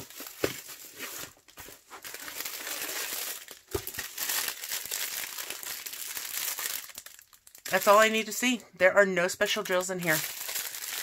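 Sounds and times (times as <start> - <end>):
plastic packaging crinkling: 0.0 - 8.5, 9.4 - 11.0.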